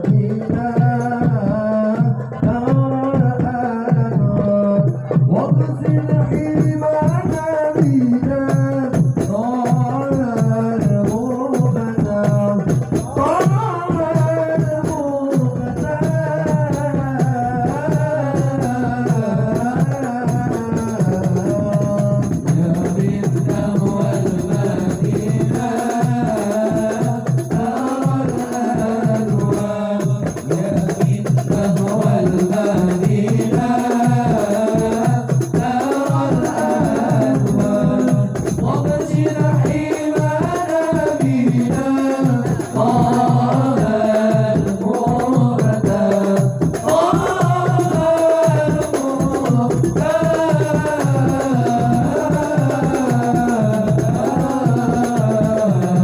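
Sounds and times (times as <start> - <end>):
hand-drum beats: 0.0 - 56.0.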